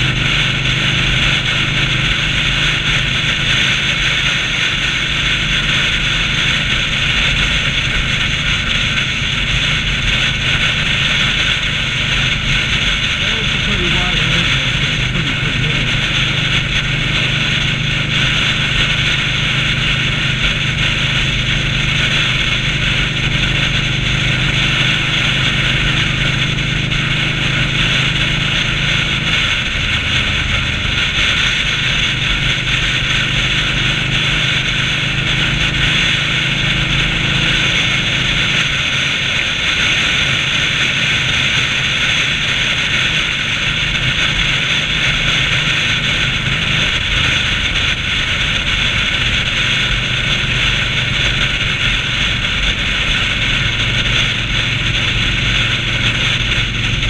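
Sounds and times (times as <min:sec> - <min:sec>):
motorcycle engine drone: 0:00.0 - 0:57.0
wind and road noise: 0:00.0 - 0:57.0.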